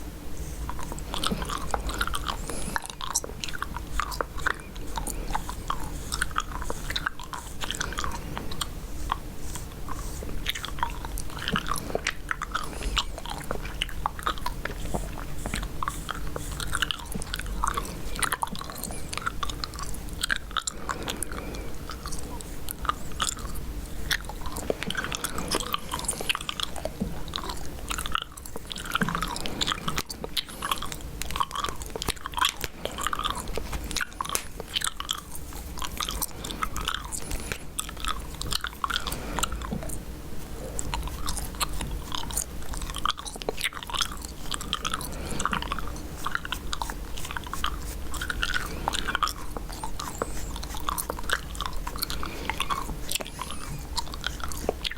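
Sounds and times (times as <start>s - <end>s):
wet chewing of gum: 0.0s - 54.9s.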